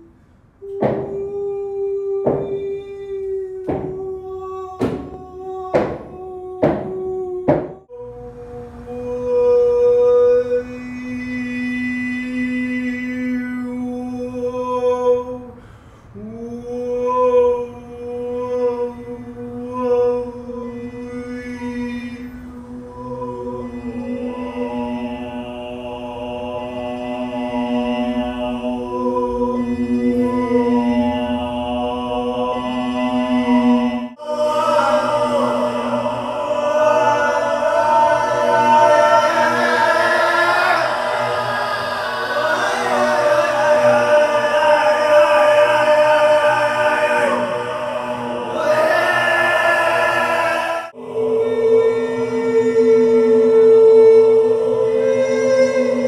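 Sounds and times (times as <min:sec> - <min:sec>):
layered looped chanting voices: 0:00.0 - 0:56.0.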